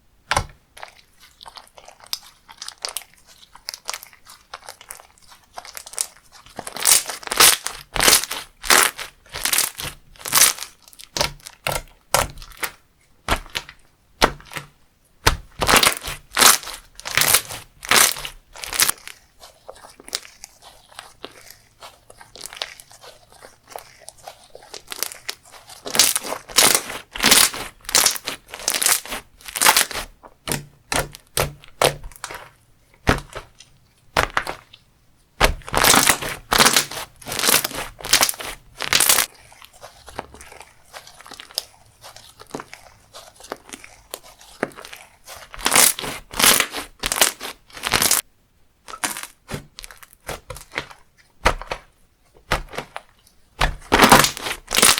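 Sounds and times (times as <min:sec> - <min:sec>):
slime squishing: 0:00.0 - 0:54.9
slime crackling and crunching: 0:00.4 - 0:48.2, 0:48.8 - 0:54.9.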